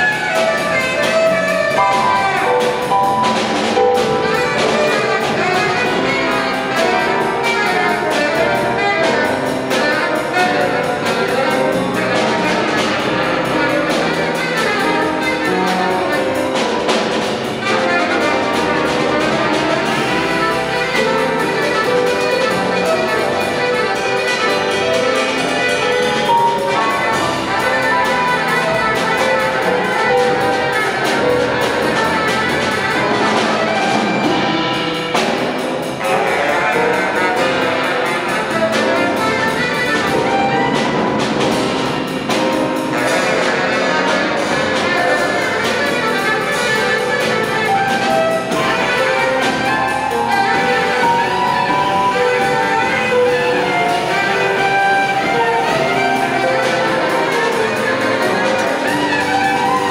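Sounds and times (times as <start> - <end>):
bass: 0.0 - 59.9
drums: 0.0 - 59.9
piano: 0.0 - 59.9
saxophone: 0.0 - 59.9.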